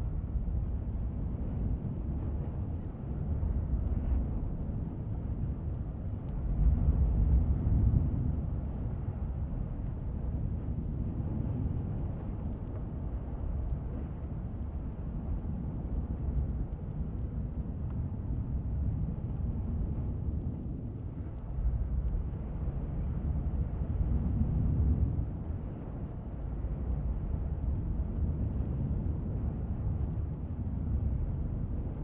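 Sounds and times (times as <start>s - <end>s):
deep underwater rumble: 0.0s - 32.0s.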